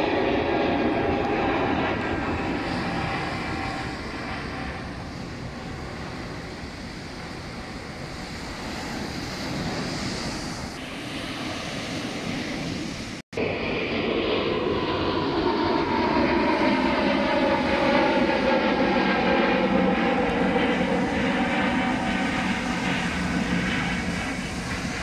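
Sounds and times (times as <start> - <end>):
airplane passing overhead: 0.0 - 25.0
wind: 0.0 - 25.0.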